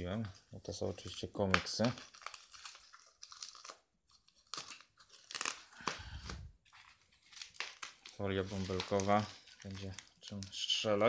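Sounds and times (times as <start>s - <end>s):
bubble wrap crinkling: 0.1s - 11.0s.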